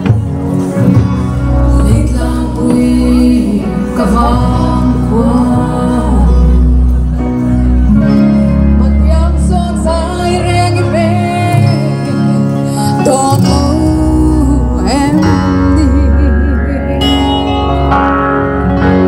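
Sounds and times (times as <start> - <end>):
guitar: 0.0 - 19.0
steady bass: 0.0 - 19.0
person singing: 1.4 - 18.1.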